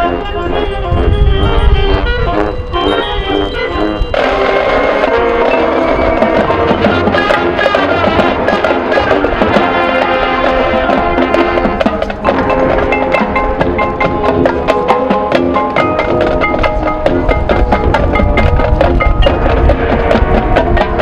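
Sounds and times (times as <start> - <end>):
sustained brass chords: 0.0 - 18.7
drumline: 0.0 - 21.0
mallet percussion: 0.0 - 21.0
marching band playing: 0.0 - 21.0.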